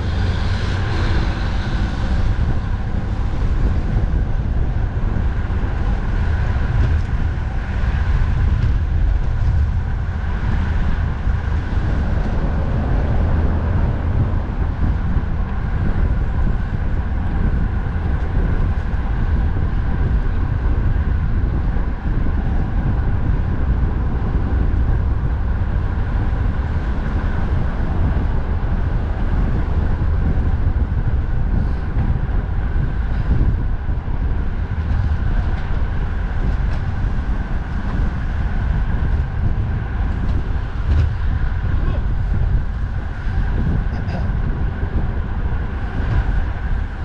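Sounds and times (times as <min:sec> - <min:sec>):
road traffic noise: 0:00.0 - 0:47.0
wind buffeting microphone: 0:00.0 - 0:47.0.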